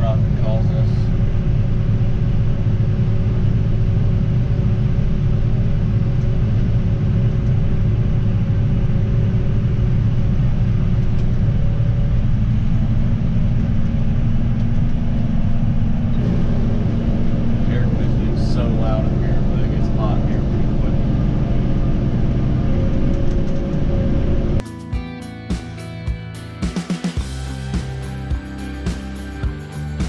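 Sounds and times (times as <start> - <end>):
diesel engine rumbling: 0.0 - 24.6, 27.2 - 30.0.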